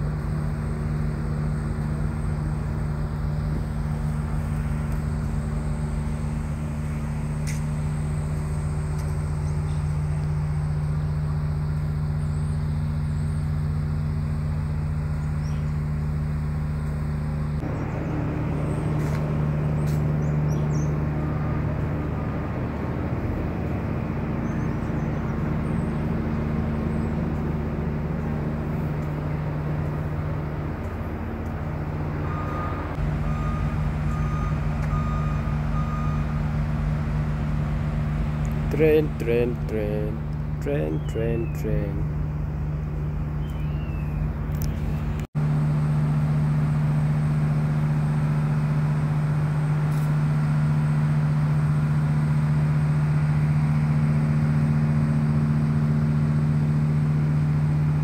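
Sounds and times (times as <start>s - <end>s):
train engine humming: 0.0s - 58.0s.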